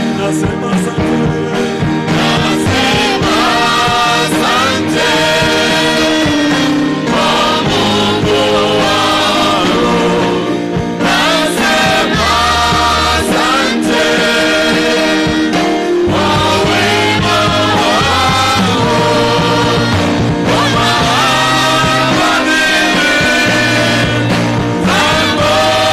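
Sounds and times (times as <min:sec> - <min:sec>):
gospel singing: 0:00.0 - 0:25.9
steady bass line: 0:00.0 - 0:25.9.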